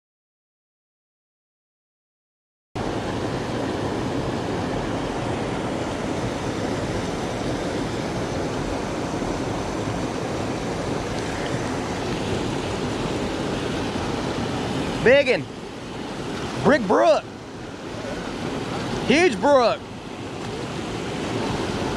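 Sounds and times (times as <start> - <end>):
stream rushing over stones: 2.8 - 21.9.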